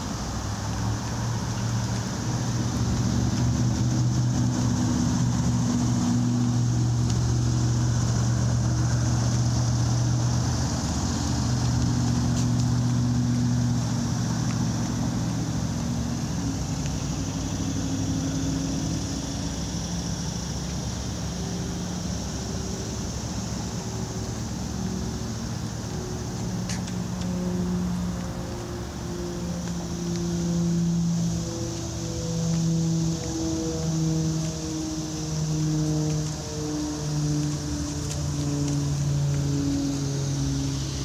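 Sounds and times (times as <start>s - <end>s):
low engine drone: 0.0s - 41.0s
traffic hum on bridge: 0.0s - 41.0s.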